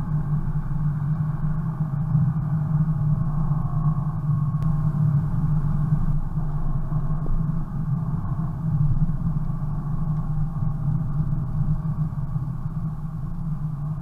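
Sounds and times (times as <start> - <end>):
car engine drone: 0.0 - 14.0.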